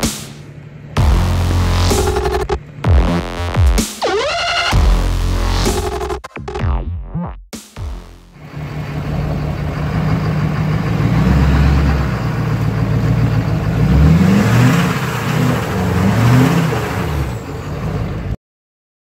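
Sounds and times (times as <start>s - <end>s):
diesel engine idling and revving: 0.0s - 6.6s, 7.8s - 18.4s.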